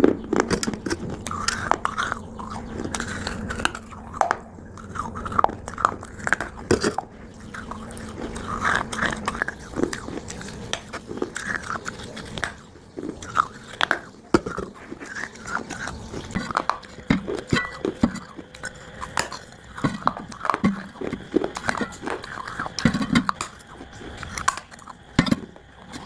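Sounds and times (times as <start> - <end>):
crunchy chewing of dry clay: 0.0 - 26.0.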